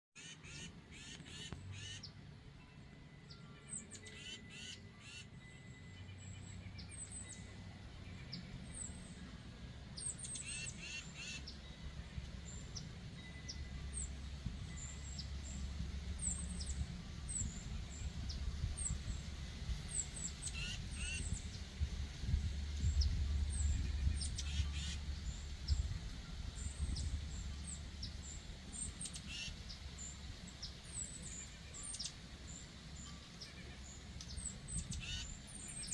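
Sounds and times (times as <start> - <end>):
birds chirping: 3.3 - 35.9
low steady rumble: 5.6 - 35.9.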